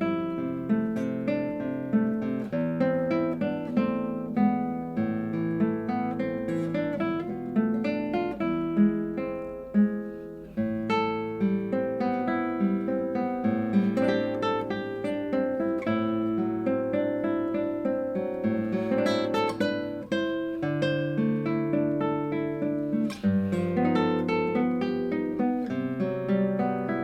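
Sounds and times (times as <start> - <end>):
classical guitar piece: 0.0 - 27.0.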